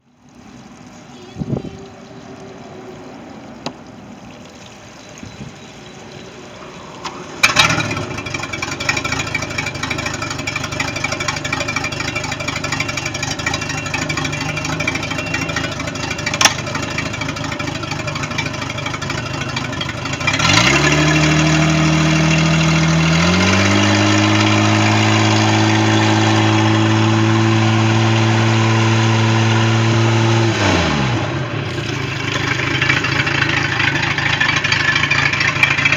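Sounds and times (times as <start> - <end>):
boat engine starting and revving: 0.0 - 35.9.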